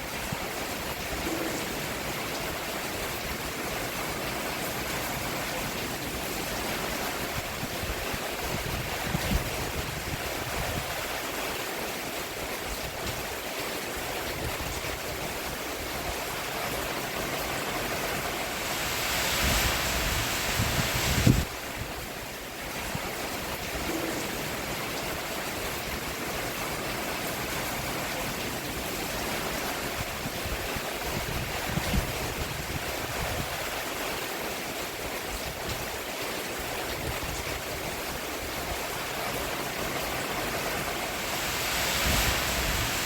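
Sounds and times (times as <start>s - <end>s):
rain on a roof: 0.0s - 43.0s.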